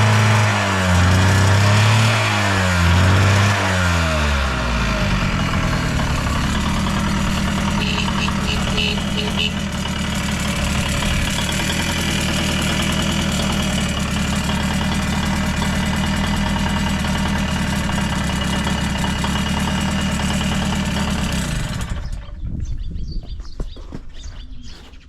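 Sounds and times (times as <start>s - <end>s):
two-stroke engine idling: 0.0s - 22.4s.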